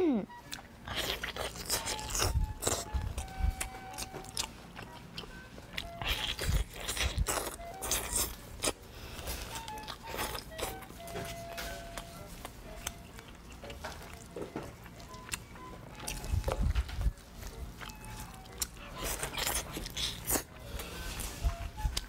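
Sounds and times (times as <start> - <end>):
light background music: 0.0 - 22.0
biting and chewing: 0.5 - 22.0.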